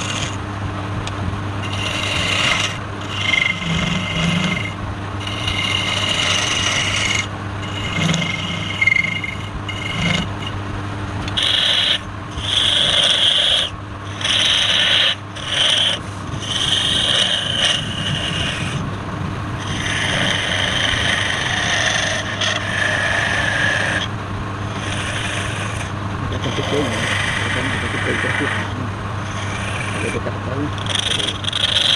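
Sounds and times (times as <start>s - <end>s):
tool scraping spinning wood: 0.0s - 31.9s
wood lathe humming: 0.0s - 31.9s.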